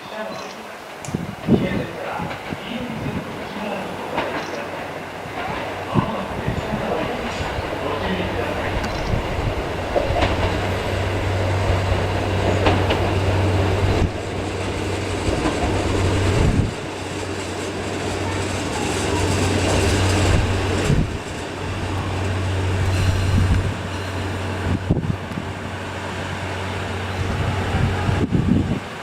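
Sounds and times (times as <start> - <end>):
wheels rumbling on rails: 0.0 - 29.0
low diesel engine hum: 5.5 - 29.0.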